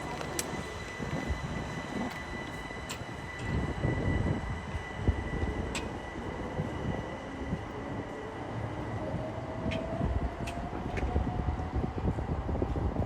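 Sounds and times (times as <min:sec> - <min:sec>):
electric train rumbling past: 0:00.0 - 0:13.0
faint train whine: 0:00.0 - 0:13.0.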